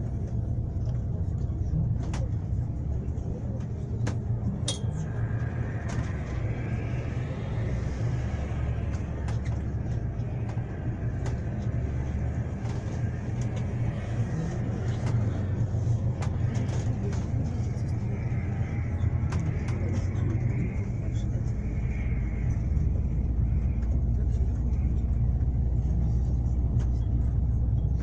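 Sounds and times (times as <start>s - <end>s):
engine and road rumble: 0.0s - 28.0s.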